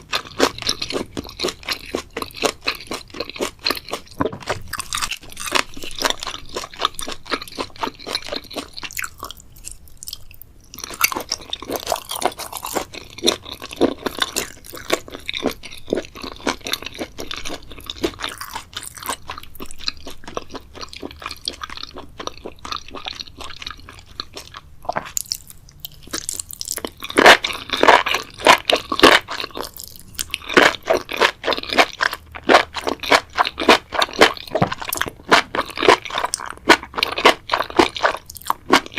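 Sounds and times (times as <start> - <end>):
person chewing crunchy seaweed: 0.0 - 38.9.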